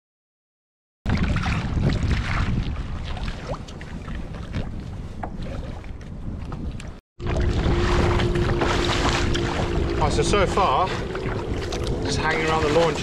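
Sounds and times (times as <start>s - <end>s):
water lapping around kayak: 1.1s - 13.0s
wind buffeting microphone: 1.1s - 13.0s.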